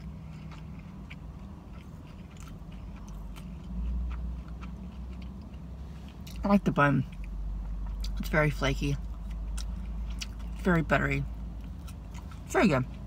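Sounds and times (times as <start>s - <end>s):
person chewing: 0.0s - 13.0s
steady low hum: 0.0s - 13.0s.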